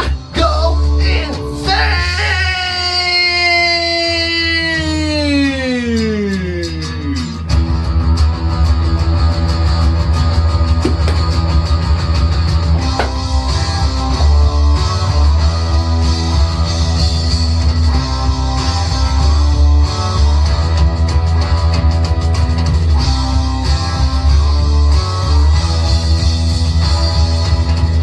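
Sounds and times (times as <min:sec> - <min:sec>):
instrumental hard rock: 0:00.0 - 0:28.0.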